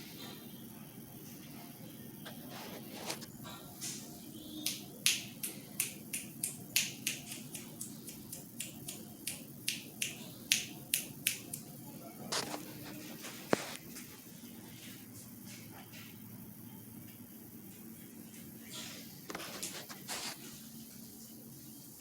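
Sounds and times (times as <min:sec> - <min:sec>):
ceiling fan clicking: 0:00.0 - 0:22.0
ceiling fan low hum: 0:00.0 - 0:22.0.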